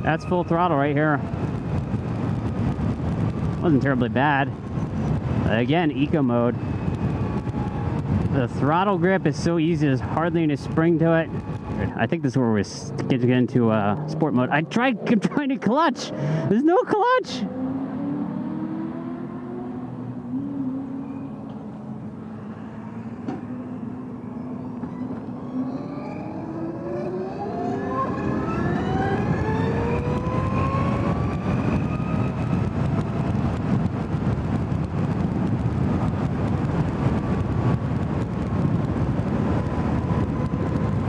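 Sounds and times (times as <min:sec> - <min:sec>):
rushing wind noise: 0:00.0 - 0:41.0.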